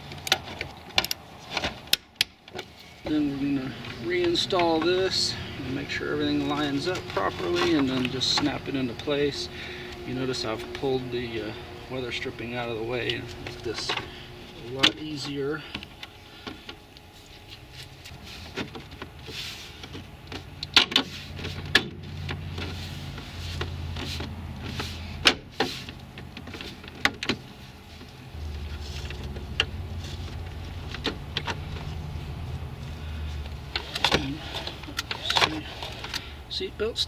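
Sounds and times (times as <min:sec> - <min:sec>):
low hum: 0:02.8 - 0:36.5.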